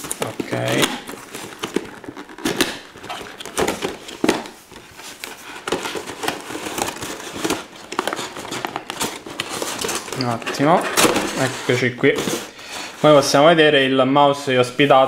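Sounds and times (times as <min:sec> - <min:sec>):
cardboard and plastic rustling: 0:00.0 - 0:15.0.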